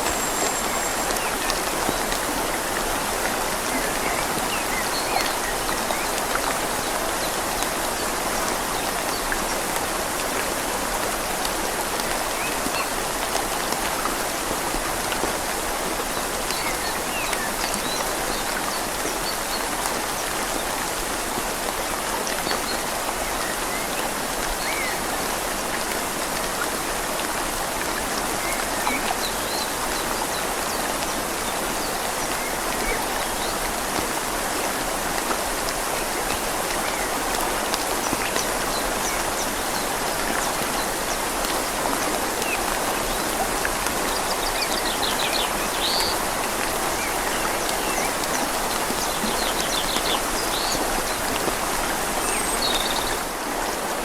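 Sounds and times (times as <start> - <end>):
rain falling on leaves: 0.0 - 54.0
river flowing: 0.0 - 54.0.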